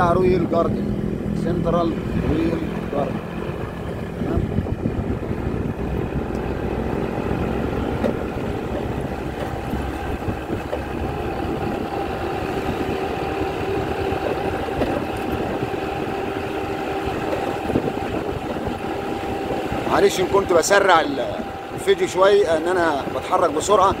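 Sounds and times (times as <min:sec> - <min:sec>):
vehicle engine drone and road noise: 0:00.0 - 0:24.0.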